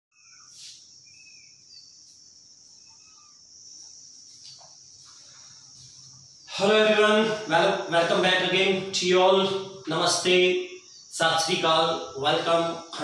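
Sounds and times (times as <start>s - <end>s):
faint chirps: 0.1s - 13.0s
insects droning: 0.2s - 13.0s.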